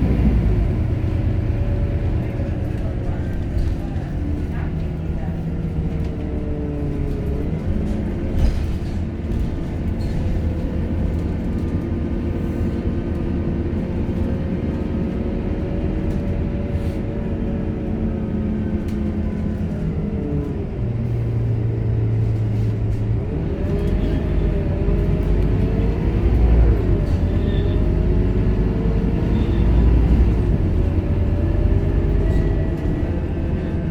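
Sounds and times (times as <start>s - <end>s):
bus diesel engine: 0.0s - 33.9s.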